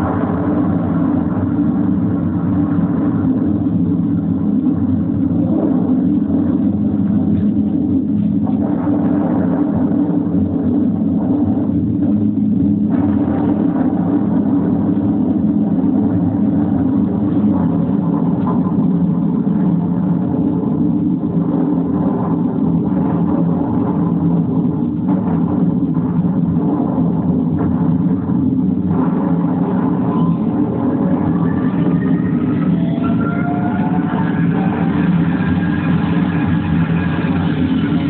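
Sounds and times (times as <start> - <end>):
piston aircraft engines droning: 0.0 - 38.0.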